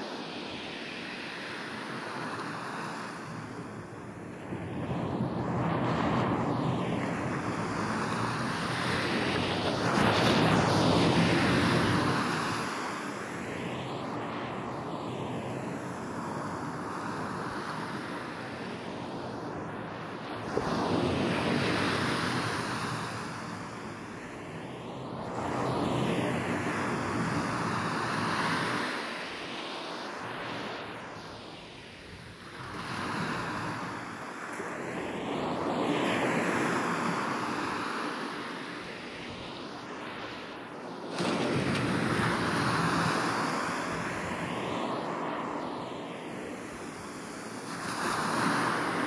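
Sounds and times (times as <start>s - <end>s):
ocean waves breaking on beach: 0.0s - 49.0s.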